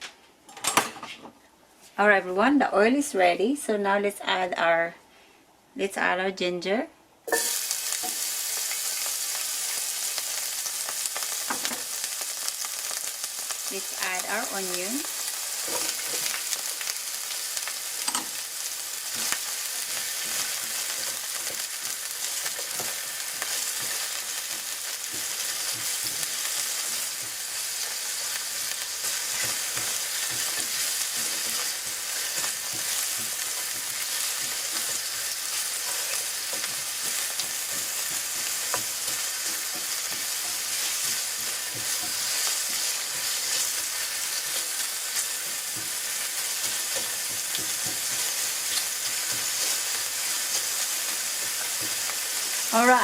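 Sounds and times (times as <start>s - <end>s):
food sizzling in oil: 7.3s - 53.0s.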